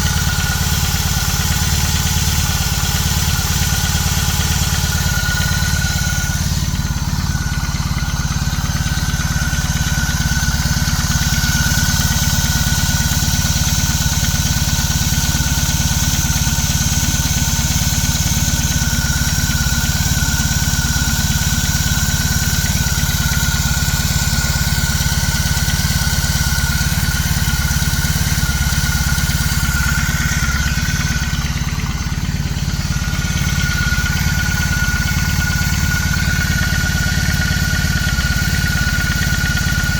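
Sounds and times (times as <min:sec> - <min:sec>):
engine rattling and knocking: 0:00.0 - 0:39.9
motorcycle engine idling: 0:00.0 - 0:39.9.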